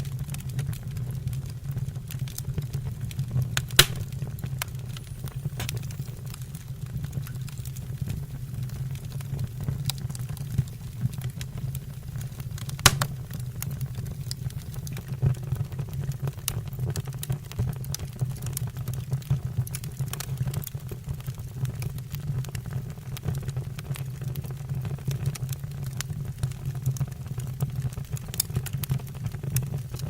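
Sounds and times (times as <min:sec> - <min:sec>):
logs crackling and popping: 0:00.0 - 0:30.0
wood fire rumbling: 0:00.0 - 0:30.0.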